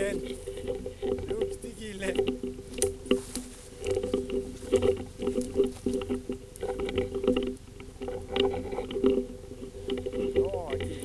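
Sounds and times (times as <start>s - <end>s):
rustling: 0.0s - 11.0s.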